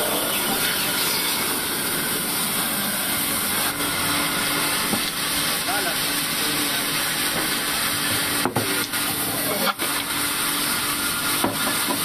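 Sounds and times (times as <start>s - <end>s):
band saw whirring: 0.0s - 12.0s.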